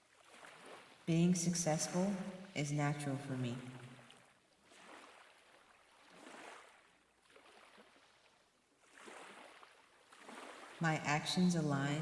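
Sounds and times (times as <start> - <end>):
faint ocean waves: 0.0 - 8.2, 8.8 - 12.0.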